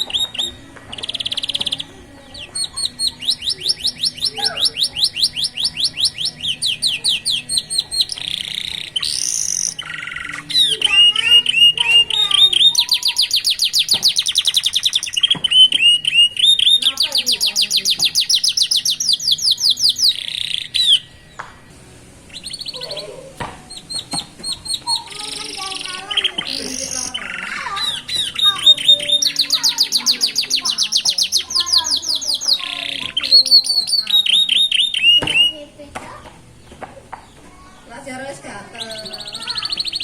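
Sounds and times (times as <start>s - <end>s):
canaries singing: 0.0s - 40.0s.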